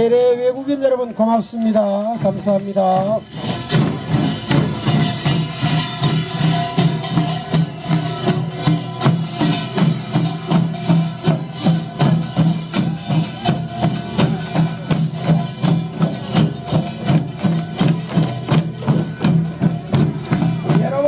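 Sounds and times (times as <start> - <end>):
drums beating: 0.0 - 21.0
gongs: 2.9 - 21.0.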